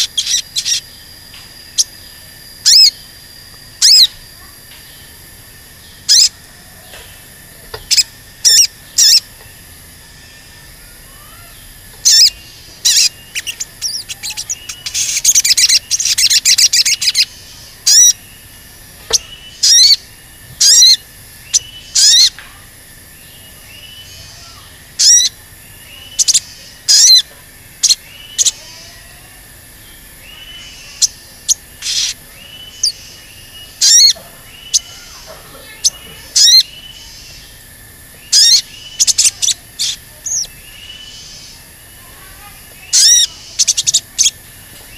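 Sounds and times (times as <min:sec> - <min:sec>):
sunbird chirping: 0:00.0 - 0:44.9.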